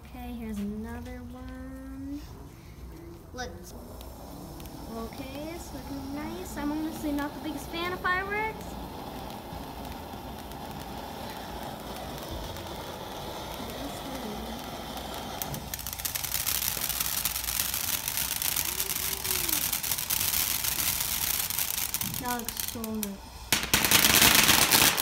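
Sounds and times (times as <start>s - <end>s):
firework fountain hissing: 1.7s - 25.0s
firework crackling pops: 3.0s - 25.0s.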